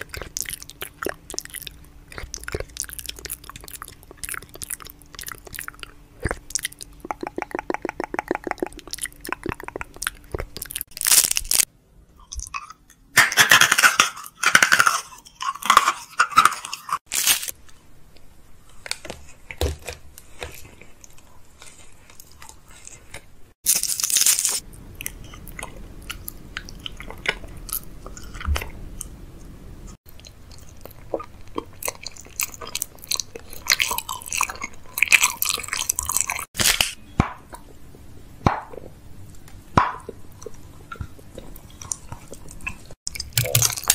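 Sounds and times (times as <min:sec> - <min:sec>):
mouth chewing and crunching: 0:00.0 - 0:17.6, 0:19.0 - 0:29.2, 0:30.0 - 0:43.9.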